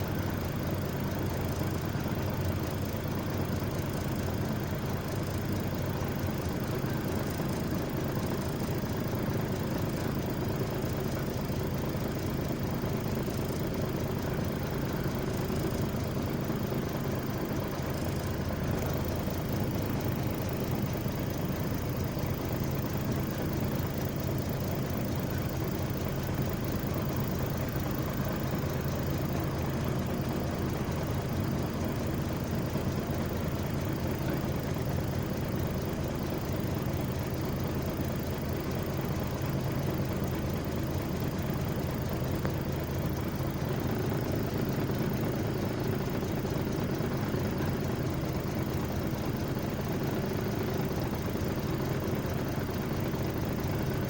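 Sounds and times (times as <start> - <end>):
heavy engine running steadily: 0.0 - 54.0.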